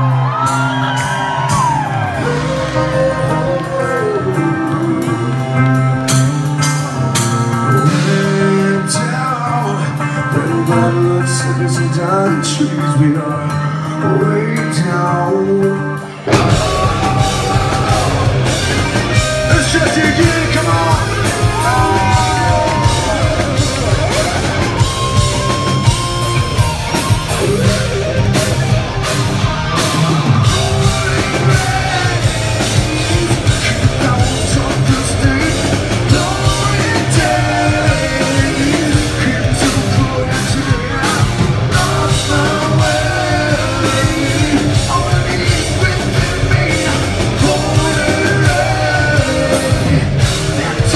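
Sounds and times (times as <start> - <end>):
drum kit: 0.0 - 11.4, 16.2 - 50.9
person singing: 0.0 - 28.3, 29.0 - 50.9
bass guitar: 0.0 - 50.9
distorted electric guitars: 0.0 - 50.9.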